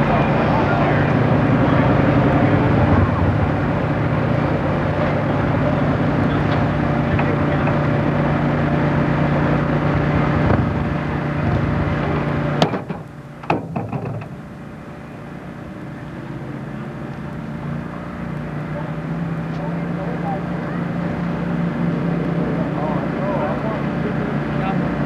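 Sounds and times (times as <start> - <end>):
engine running at steady pitch: 0.0 - 25.0.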